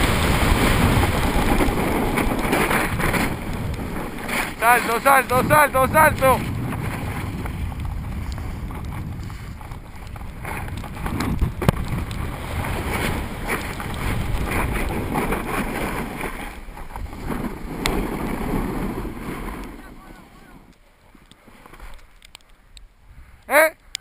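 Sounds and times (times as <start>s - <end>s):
snowboard scraping on snow: 0.0s - 22.0s
wind over microphone: 0.0s - 24.0s.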